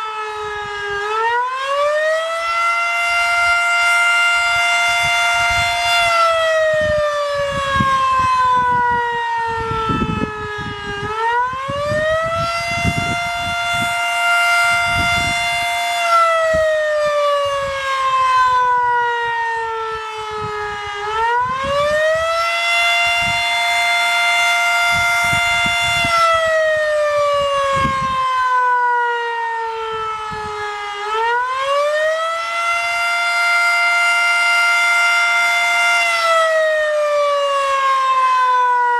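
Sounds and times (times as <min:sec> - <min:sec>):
fire siren wailing: 0:00.0 - 0:38.9.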